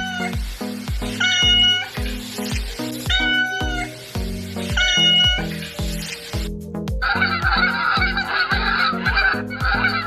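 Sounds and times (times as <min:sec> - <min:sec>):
upbeat music with drum beat: 0:00.0 - 0:10.0.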